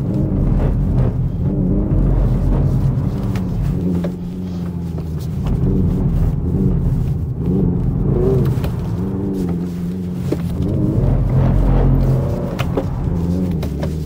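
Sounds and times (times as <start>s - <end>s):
synthesized car engine sound revving: 0.0s - 14.0s.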